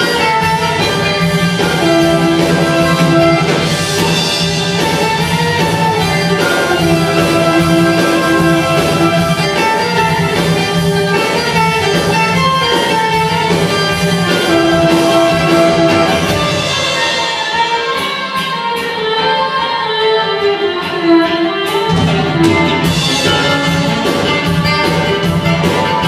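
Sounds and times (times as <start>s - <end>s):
guitar: 0.0s - 26.0s
mandolin: 0.0s - 26.0s
violin: 0.0s - 26.0s.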